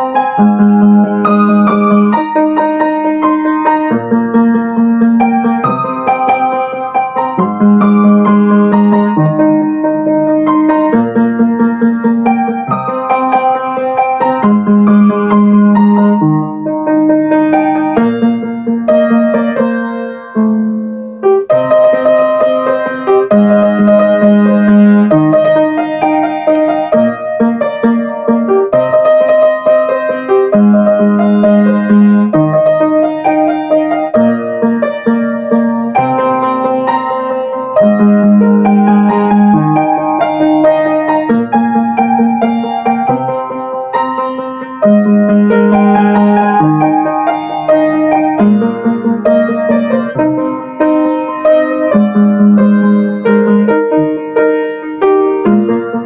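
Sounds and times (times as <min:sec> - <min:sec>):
piano ballad: 0:00.0 - 0:56.0.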